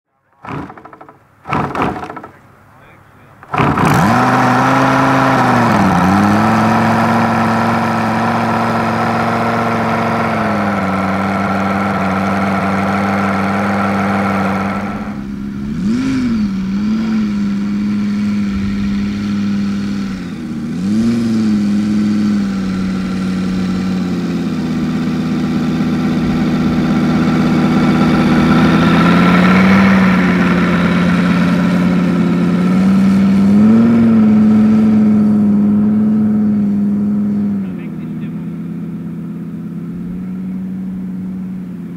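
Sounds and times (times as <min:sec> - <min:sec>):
radial engine running: 0:00.1 - 0:41.9.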